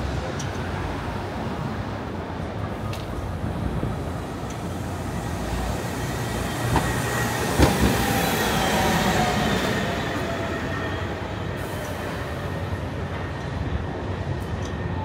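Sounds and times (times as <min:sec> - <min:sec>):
train running on rails: 0:00.0 - 0:15.0.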